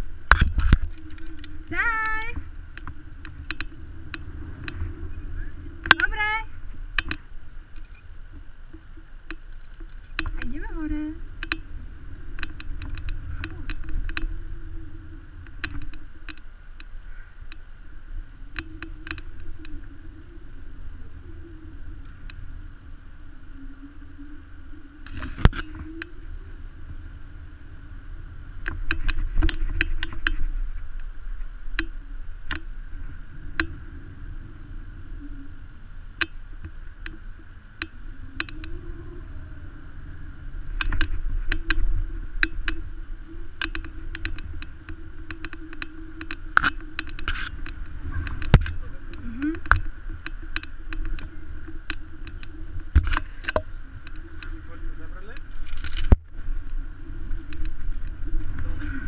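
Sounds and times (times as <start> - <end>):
low rumble: 0.0 - 59.0
wavering drone: 0.0 - 59.0.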